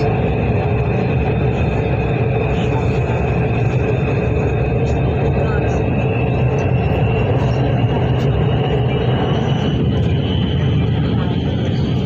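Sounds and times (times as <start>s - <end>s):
metro train rumble: 0.0s - 12.0s
train motor whine: 0.0s - 12.0s.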